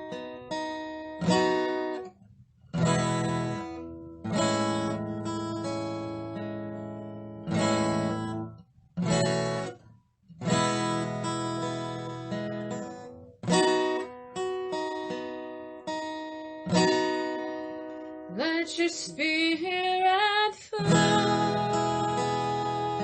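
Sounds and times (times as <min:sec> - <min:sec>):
acoustic guitar strumming chords: 0:00.0 - 0:09.8, 0:10.4 - 0:23.0.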